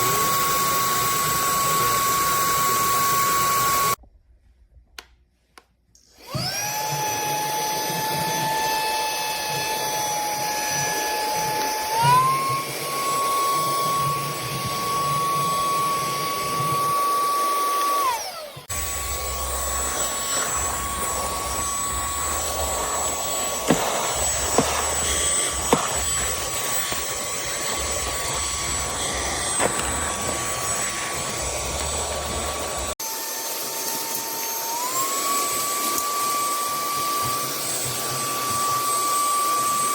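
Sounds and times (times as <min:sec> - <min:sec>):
cordless vacuum cleaner whine: 0:00.0 - 0:04.0, 0:06.0 - 0:39.9.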